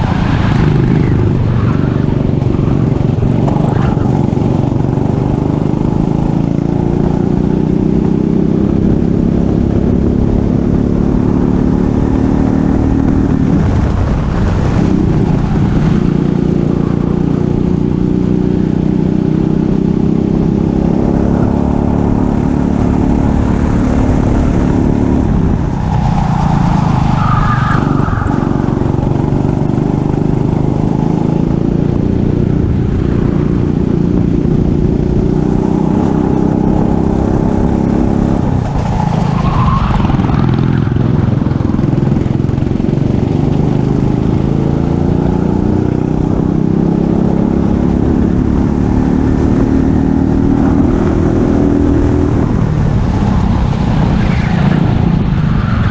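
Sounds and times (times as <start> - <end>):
racing kart engine at high revs: 0.0 - 55.9.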